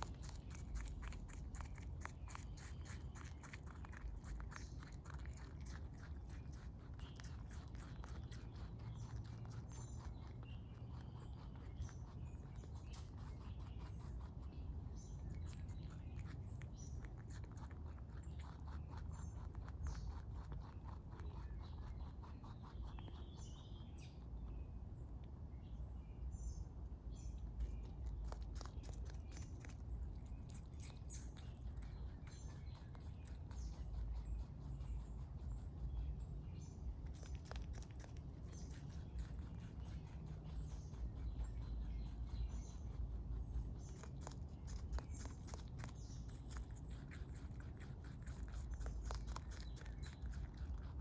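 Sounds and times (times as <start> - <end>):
rabbit chewing: 0.0 - 51.0
small birds chirping: 0.0 - 51.0.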